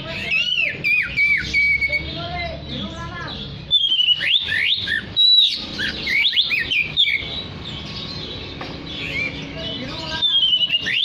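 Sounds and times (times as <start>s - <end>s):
bird singing whistled notes: 0.2s - 11.0s.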